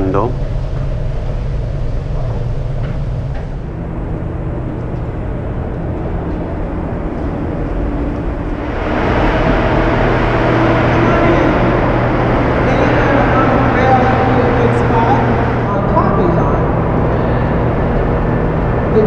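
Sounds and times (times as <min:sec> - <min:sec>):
turbine generators humming: 0:00.0 - 0:19.0.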